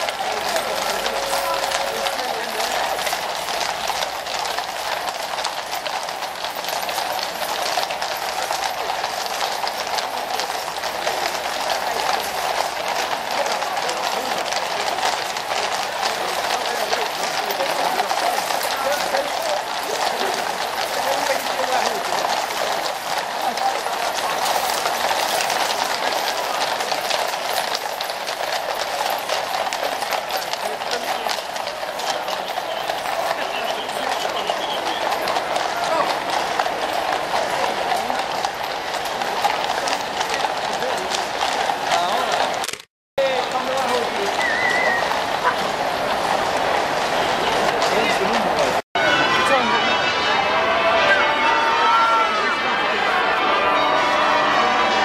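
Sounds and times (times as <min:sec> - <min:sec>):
horse hooves clip-clopping on asphalt: 0:00.0 - 0:48.8.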